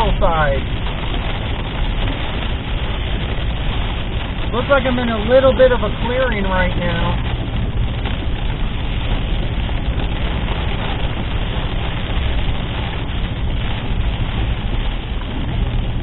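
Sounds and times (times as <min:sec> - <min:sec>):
car road and engine drone: 0:00.0 - 0:16.0.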